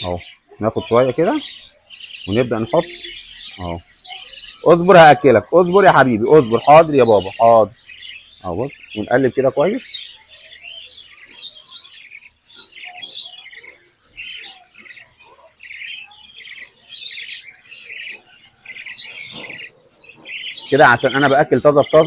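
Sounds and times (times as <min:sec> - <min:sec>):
budgerigar chicks chirping: 0:00.0 - 0:22.0.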